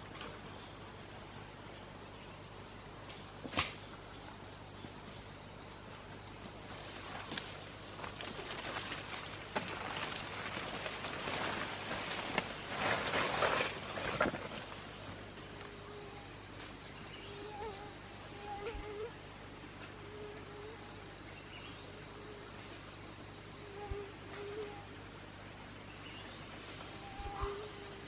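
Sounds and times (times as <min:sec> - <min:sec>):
cricket trilling: 0:00.0 - 0:28.0.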